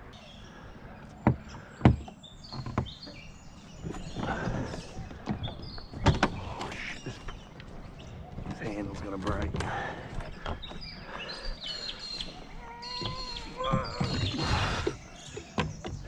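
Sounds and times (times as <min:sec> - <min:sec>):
birds chirping: 0:00.0 - 0:16.0
kayak hull knocking and scraping: 0:01.1 - 0:11.2, 0:11.9 - 0:16.0.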